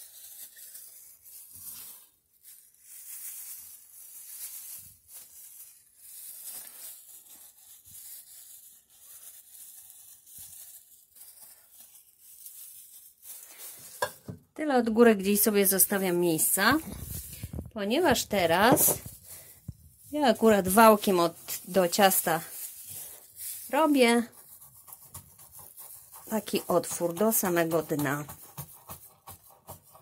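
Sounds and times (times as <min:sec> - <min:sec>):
cabbage crunching: 0:00.0 - 0:14.3, 0:15.4 - 0:30.0
plastic glove rustling: 0:00.0 - 0:30.0.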